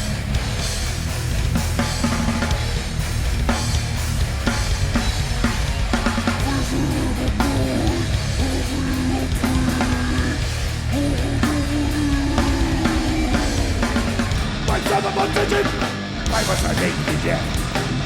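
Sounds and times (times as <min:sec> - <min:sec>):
drum kit hitting: 0:00.0 - 0:18.0
live rock band playing: 0:00.0 - 0:18.0.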